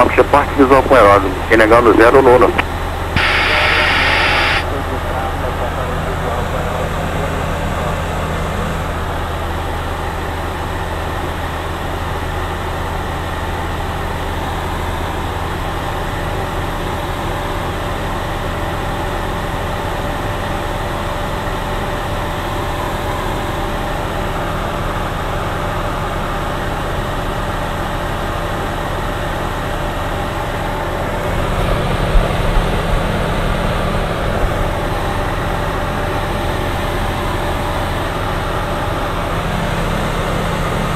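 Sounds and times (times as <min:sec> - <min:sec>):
propeller aircraft engine drone: 0:00.0 - 0:40.9.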